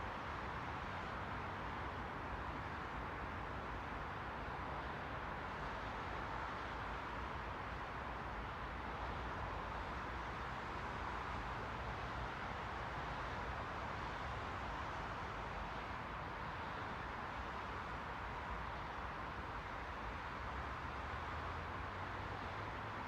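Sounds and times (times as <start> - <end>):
white noise hiss: 0.0 - 23.0.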